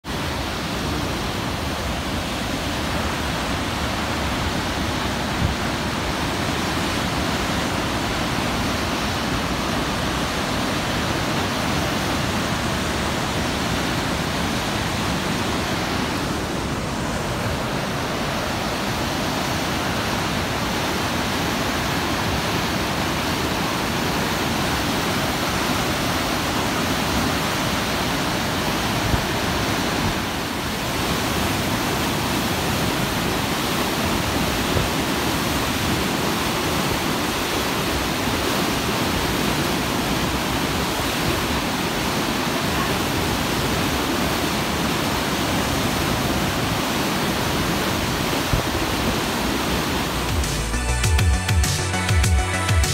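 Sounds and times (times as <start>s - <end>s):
whitewater rushing through gorge: 0.0s - 50.4s.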